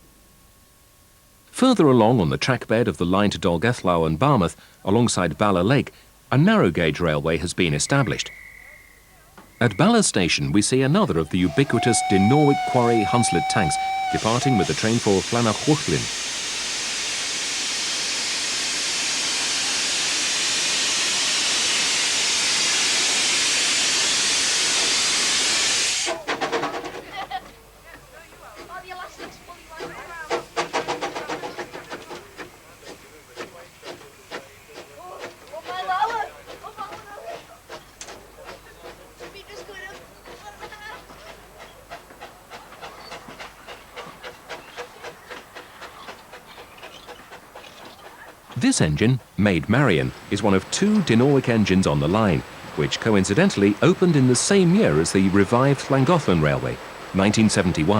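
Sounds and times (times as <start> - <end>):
steam hissing: 9.6 - 27.2, 28.0 - 57.9.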